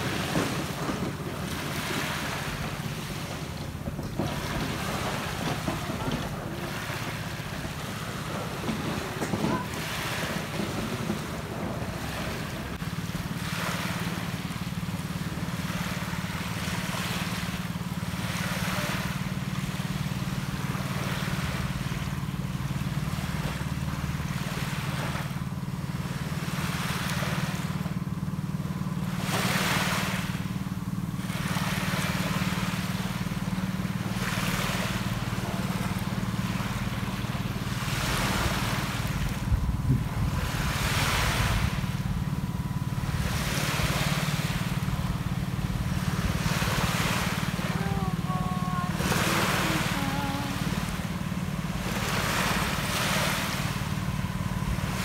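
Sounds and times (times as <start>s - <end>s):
small waves washing onto beach: 0.0s - 55.0s
steady low hum: 0.0s - 55.0s.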